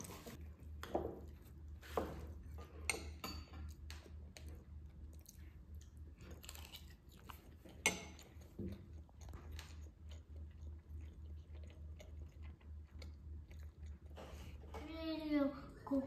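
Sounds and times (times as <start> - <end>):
child chewing: 0.0 - 15.8.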